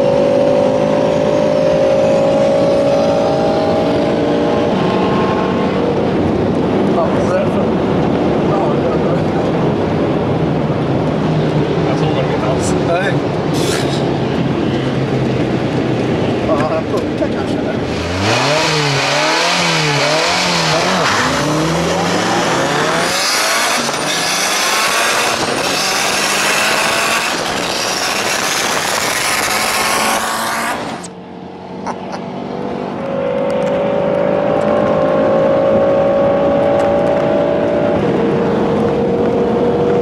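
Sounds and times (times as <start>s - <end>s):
cars accelerating hard: 0.0s - 14.4s, 15.0s - 40.0s.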